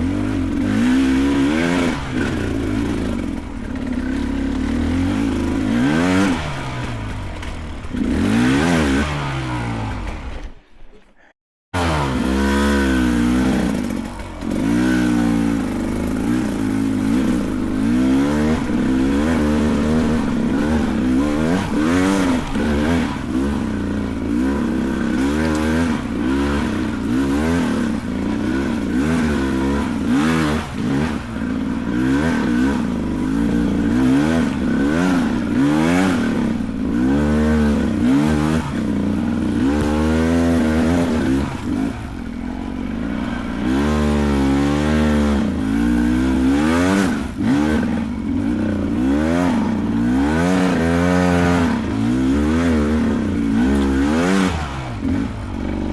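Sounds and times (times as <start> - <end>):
dirt bike engine revving: 0.0 - 10.7, 11.8 - 55.9.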